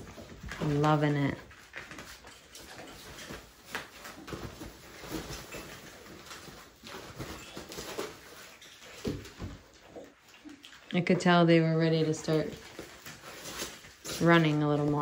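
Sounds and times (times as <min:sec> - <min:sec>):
small paws clicking and scuffling: 0:00.0 - 0:15.0.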